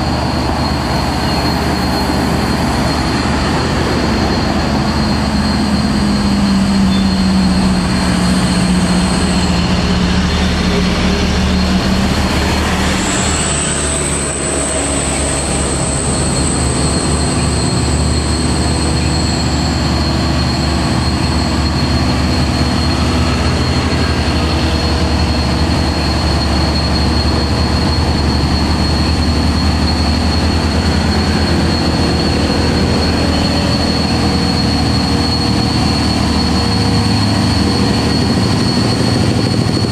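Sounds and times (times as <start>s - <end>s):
high whine: 0.0s - 39.9s
truck diesel engine labouring: 0.0s - 39.9s.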